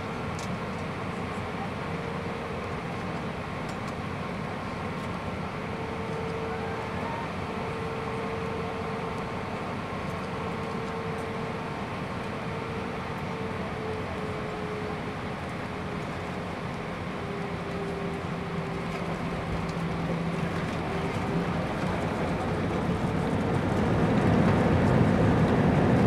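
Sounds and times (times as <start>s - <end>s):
aircraft engine and airflow rush: 0.0s - 26.0s.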